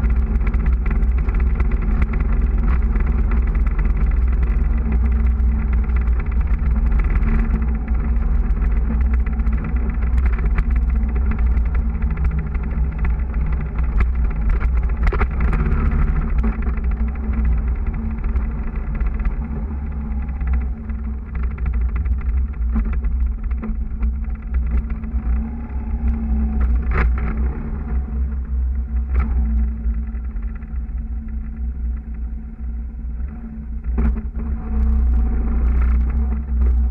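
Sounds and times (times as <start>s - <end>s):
motorcycle engine running: 0.0s - 36.9s
wind rumble on microphone: 0.0s - 36.9s.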